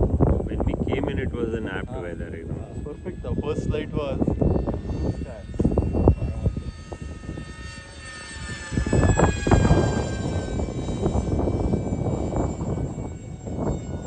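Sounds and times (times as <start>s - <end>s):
low rumble: 0.0s - 14.0s
model aircraft motor whining: 0.0s - 14.0s.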